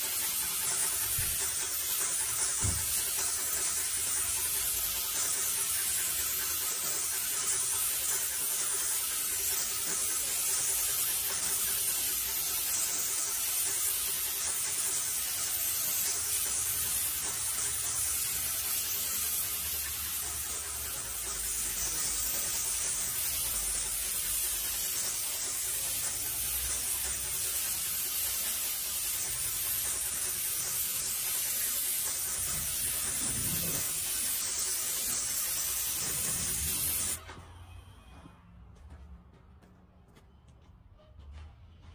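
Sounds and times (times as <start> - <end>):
paint spray hissing: 0.0 - 37.2.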